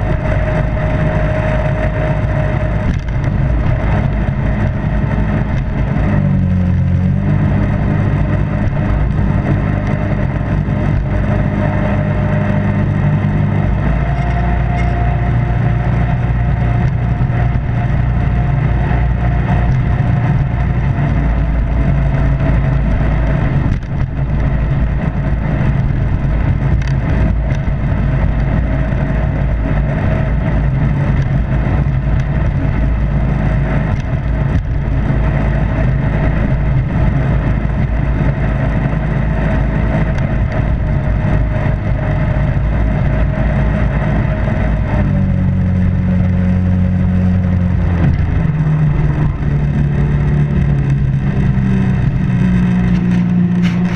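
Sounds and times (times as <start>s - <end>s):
high engine whine: 0.0s - 53.9s
jet boat engine: 0.0s - 53.9s.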